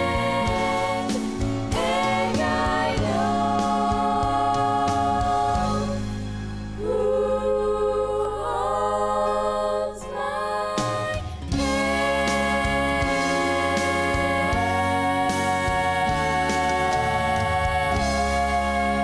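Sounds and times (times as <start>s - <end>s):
women singing in harmony: 0.0s - 6.2s, 6.8s - 19.0s
low instrumental accompaniment: 0.0s - 19.0s.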